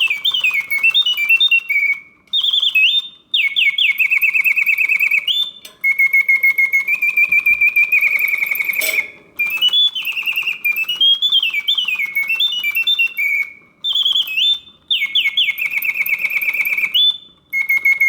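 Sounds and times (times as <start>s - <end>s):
mechanical bird whistle warbling: 0.0s - 18.0s.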